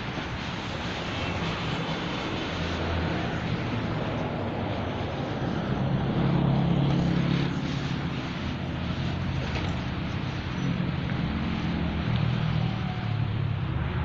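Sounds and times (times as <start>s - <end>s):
steady rain: 0.0s - 14.0s
vehicle engine low hum: 0.0s - 14.0s.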